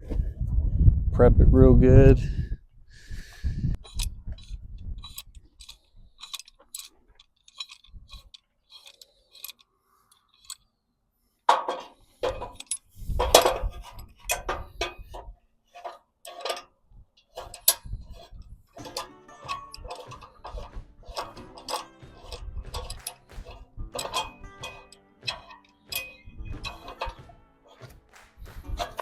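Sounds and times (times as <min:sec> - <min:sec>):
metal tools clinking and knocking: 0:03.8 - 0:10.6, 0:11.5 - 0:29.0.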